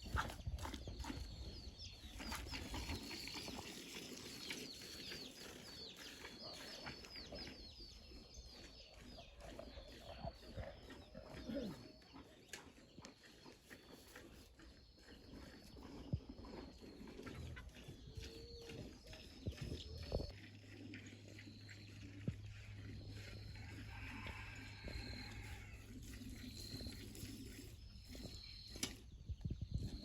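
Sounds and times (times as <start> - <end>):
birds chirping: 0.0 - 30.0
farm animal call: 4.5 - 29.0.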